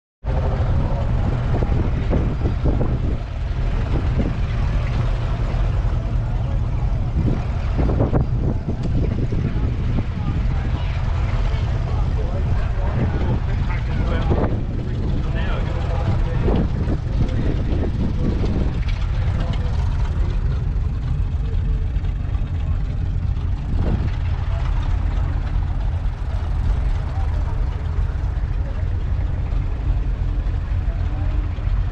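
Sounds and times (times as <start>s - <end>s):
tractor diesel engine running: 0.2s - 31.9s.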